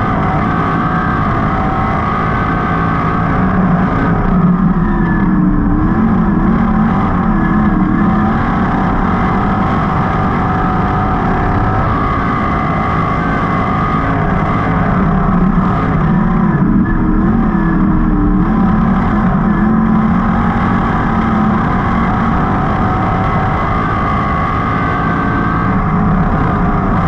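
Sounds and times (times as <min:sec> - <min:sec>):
race car engine at high revs: 0:00.0 - 0:27.0.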